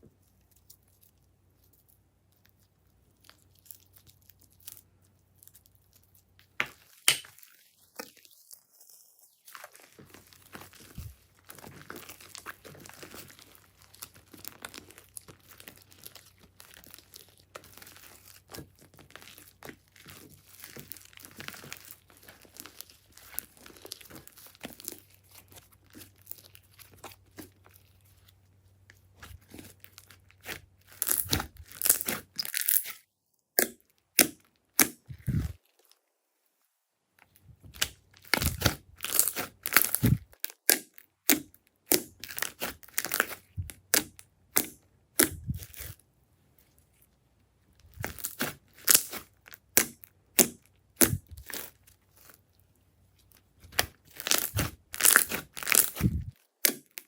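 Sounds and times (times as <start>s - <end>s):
slime squishing and crackling: 0.3s - 36.0s, 37.3s - 46.0s, 47.7s - 57.0s.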